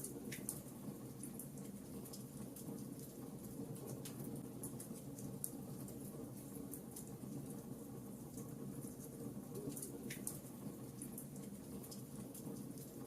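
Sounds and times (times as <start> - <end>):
low steady fire roar: 0.0 - 13.0.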